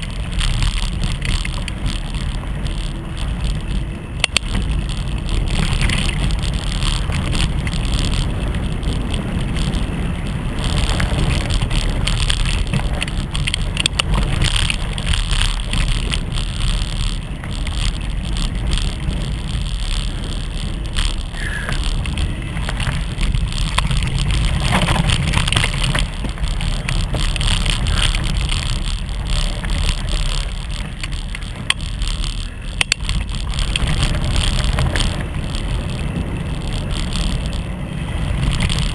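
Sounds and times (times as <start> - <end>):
bike rattling over bumps: 0.0 - 38.9
wind rumble on microphone: 0.0 - 38.9.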